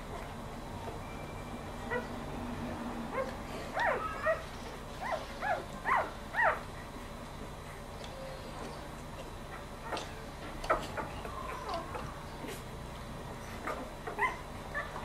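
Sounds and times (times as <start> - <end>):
puppies squeaking: 0.8 - 6.6, 8.0 - 12.7, 13.4 - 15.0.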